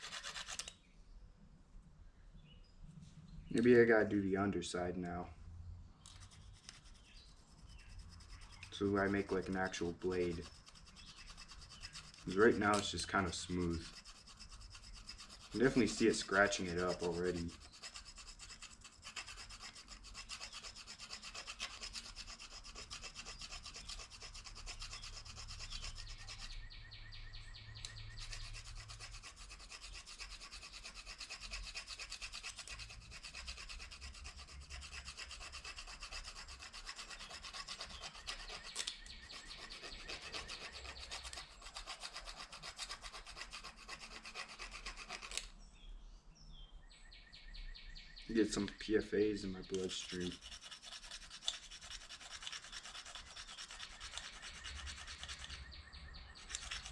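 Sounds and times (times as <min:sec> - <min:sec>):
plastic fork scraping plastic spoon: 0:00.0 - 0:00.8, 0:06.0 - 0:26.6, 0:27.8 - 0:45.5, 0:49.6 - 0:55.6, 0:56.4 - 0:56.9.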